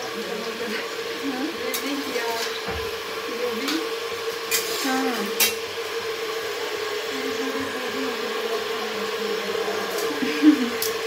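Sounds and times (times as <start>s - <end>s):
potatoes frying: 0.0s - 11.0s.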